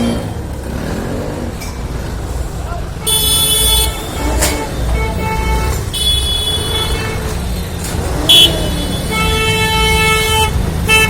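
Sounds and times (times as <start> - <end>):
car horns honking: 0.0 - 0.8, 2.8 - 11.0.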